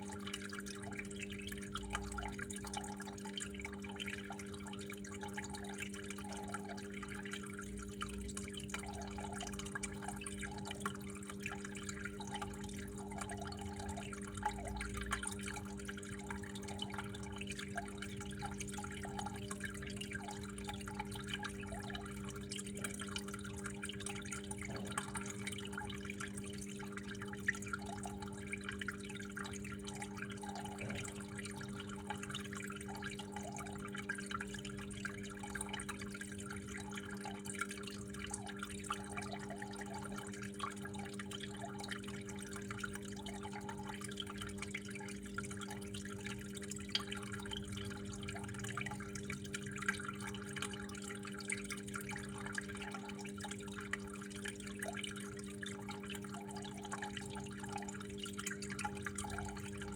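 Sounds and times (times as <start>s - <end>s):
water flowing and dripping: 0.0s - 59.9s.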